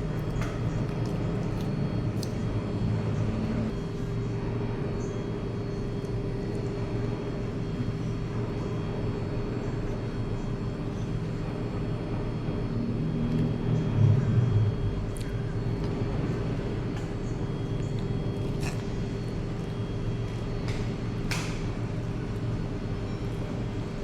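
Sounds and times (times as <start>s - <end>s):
faint hum: 0.0s - 24.0s
low mechanical rumble: 0.0s - 24.0s.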